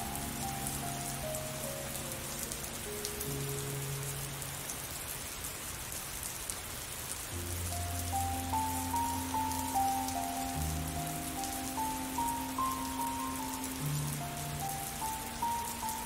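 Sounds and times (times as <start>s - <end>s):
slow sustained music notes: 0.0s - 4.9s, 7.3s - 16.0s
rain pattering: 0.0s - 16.0s.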